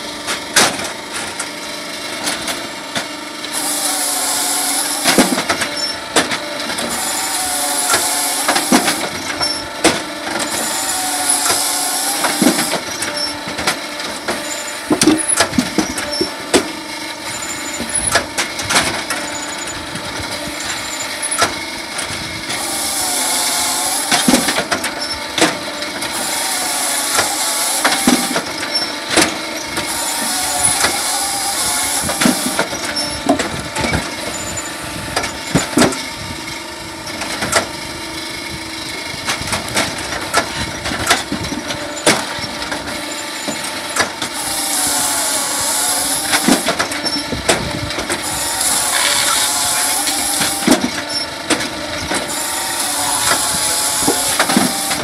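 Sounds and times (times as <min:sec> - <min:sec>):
machine drone: 0:00.0 - 0:55.0
hissing whining cycle: 0:01.2 - 0:55.0.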